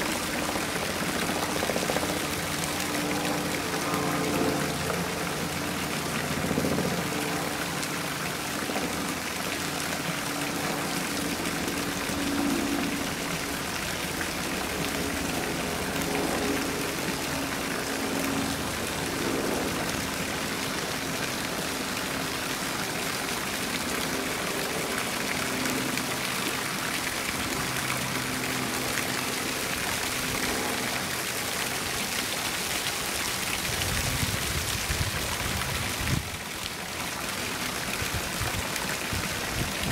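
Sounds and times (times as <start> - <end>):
water splashing into pond: 0.0 - 39.9.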